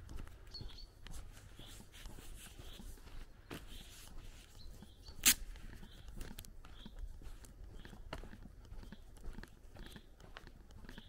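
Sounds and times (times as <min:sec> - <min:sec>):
birds chirping: 0:00.0 - 0:11.0
footsteps on dirt road: 0:00.0 - 0:11.0.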